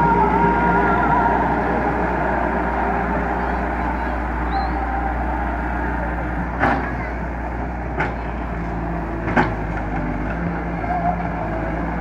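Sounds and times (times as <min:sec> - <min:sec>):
diesel excavator engine running: 0:00.0 - 0:12.0.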